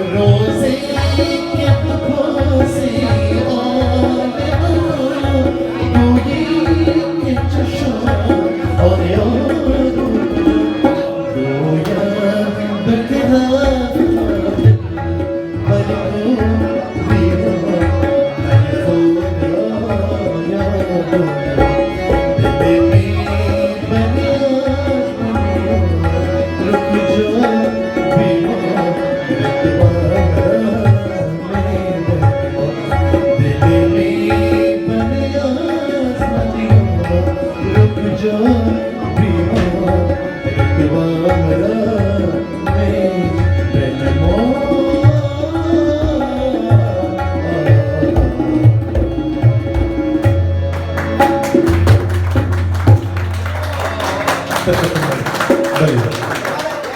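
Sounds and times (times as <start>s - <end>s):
tabla rhythm: 0.0s - 56.9s.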